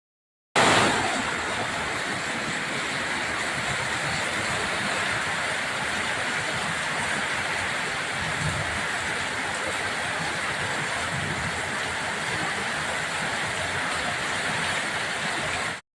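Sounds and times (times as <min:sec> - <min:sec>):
heavy rain pouring: 0:00.6 - 0:15.8.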